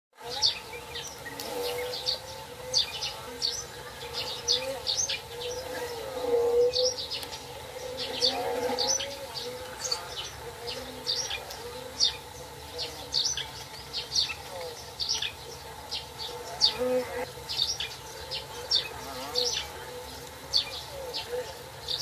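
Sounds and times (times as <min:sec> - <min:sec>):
insect buzzing: 0:00.2 - 0:22.0
small birds chirping: 0:00.2 - 0:22.0.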